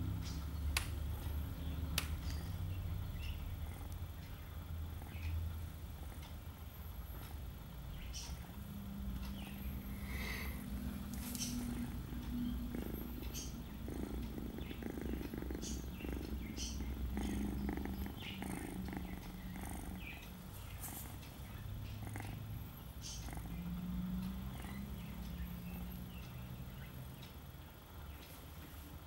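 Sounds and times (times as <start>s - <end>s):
cat purring: 0.0s - 27.1s.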